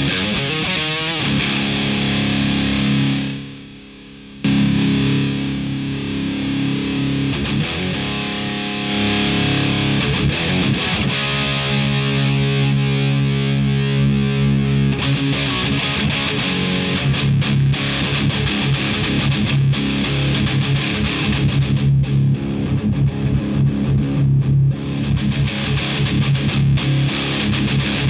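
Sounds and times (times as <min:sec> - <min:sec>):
distorted electric guitar chords: 0:00.0 - 0:28.0.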